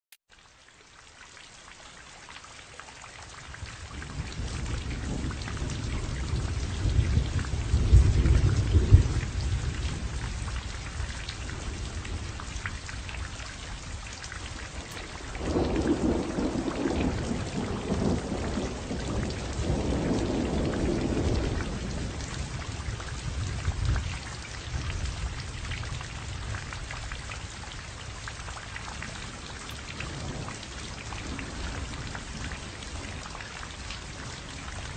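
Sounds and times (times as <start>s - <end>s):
steady rain falling: 0.3s - 34.9s
rolling thunder: 3.8s - 14.1s, 14.8s - 27.5s, 28.5s - 34.9s.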